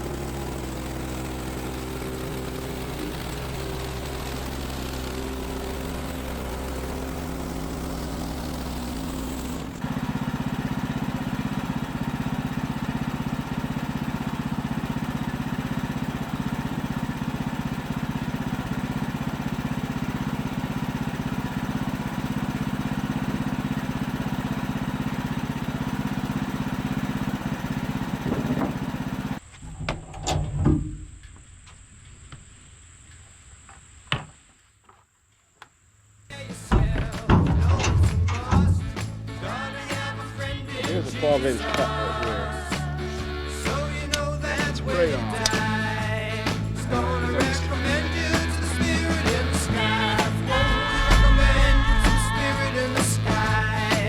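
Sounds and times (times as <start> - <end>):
sawmill gas engine running: 0.0 - 29.5, 36.3 - 54.0.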